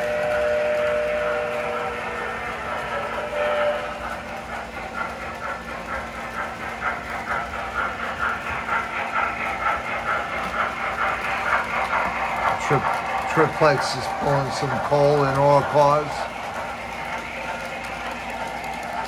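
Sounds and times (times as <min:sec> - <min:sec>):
model steam locomotive chuffing: 0:00.0 - 0:19.0
model train rolling: 0:00.0 - 0:19.0.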